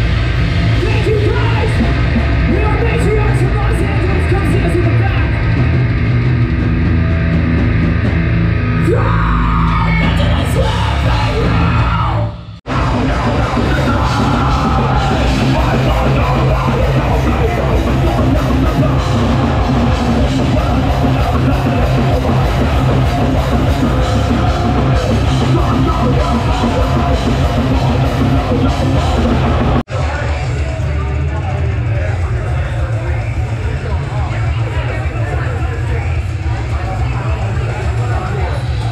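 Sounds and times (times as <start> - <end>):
heavy rock music with vocals: 0.0 - 38.9.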